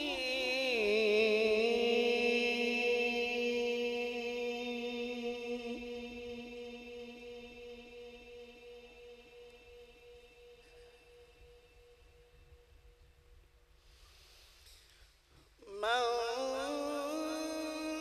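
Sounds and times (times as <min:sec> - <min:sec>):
man chanting with echo: 0:00.0 - 0:12.8, 0:15.6 - 0:18.0.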